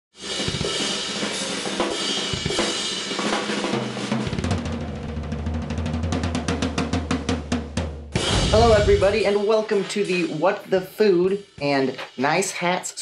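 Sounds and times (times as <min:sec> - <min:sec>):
drum kit playing: 0:00.2 - 0:13.0.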